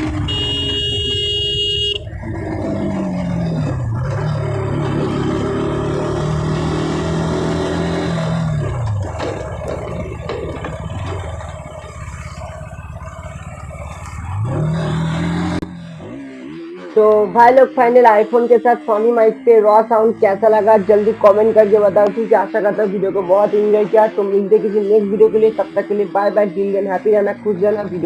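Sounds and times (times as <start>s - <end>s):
motorcycle engine: 0.0s - 28.0s.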